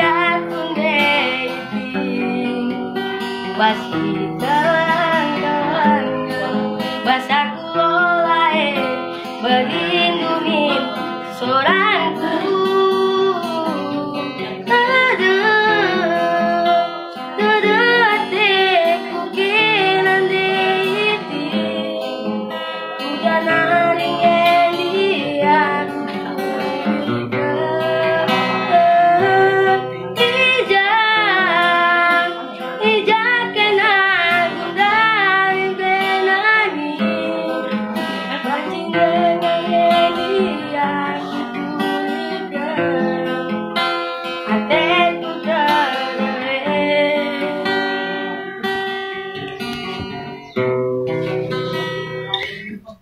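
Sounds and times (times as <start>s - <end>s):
boy singing: 0.0s - 43.4s, 44.4s - 48.6s
acoustic guitar chords: 0.0s - 53.0s.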